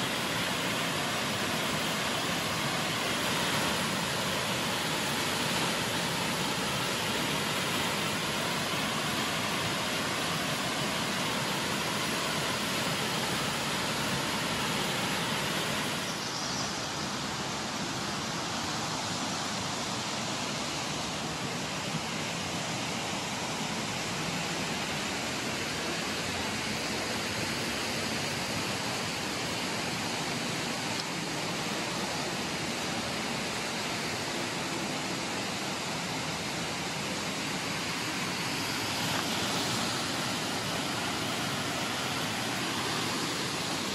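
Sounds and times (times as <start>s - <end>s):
fast-flowing river water rushing: 0.0s - 43.9s.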